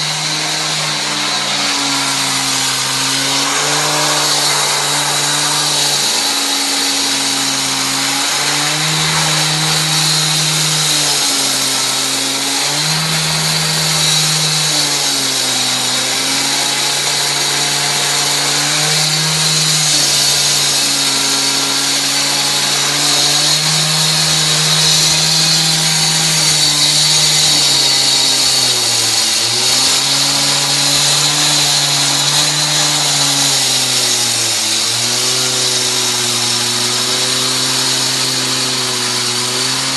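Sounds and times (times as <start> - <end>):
cut-off saw engine running: 0.0 - 39.9.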